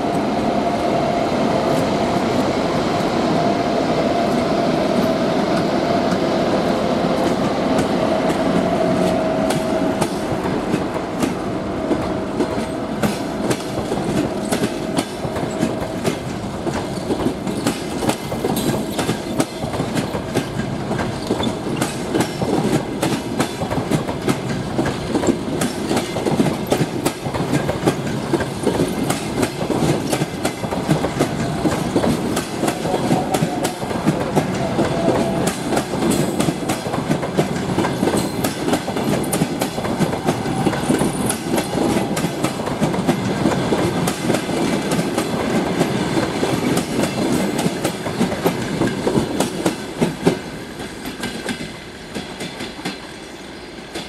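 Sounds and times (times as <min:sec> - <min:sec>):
train coaches rumbling past: 0:00.0 - 0:54.0
wheels clicking over rail joints: 0:07.2 - 0:53.0.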